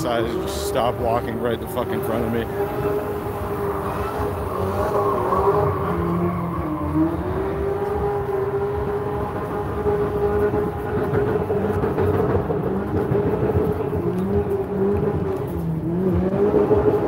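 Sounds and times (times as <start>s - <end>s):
lower engine note rising and falling: 0.0s - 17.0s
race car engines at high revs: 0.0s - 17.0s.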